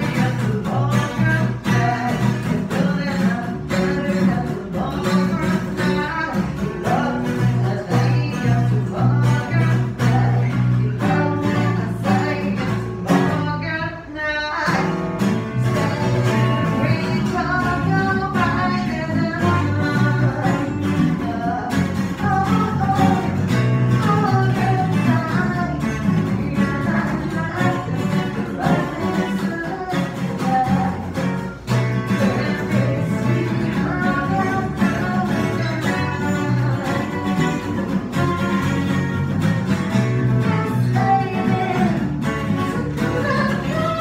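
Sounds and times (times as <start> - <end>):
electric bass: 0.0 - 44.0
person singing: 0.0 - 44.0
strummed acoustic guitar: 0.0 - 44.0.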